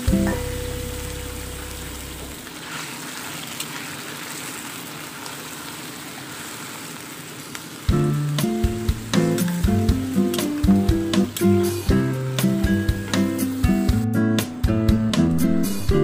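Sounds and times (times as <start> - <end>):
broth simmering and sizzling: 0.0 - 16.0.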